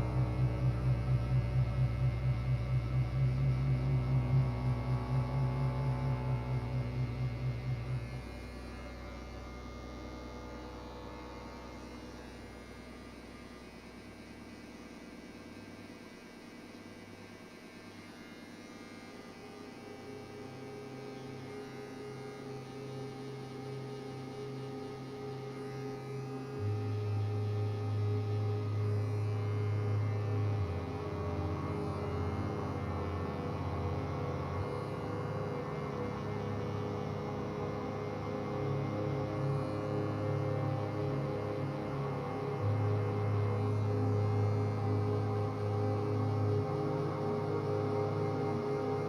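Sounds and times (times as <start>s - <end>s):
low electric hum: 0.0s - 49.0s.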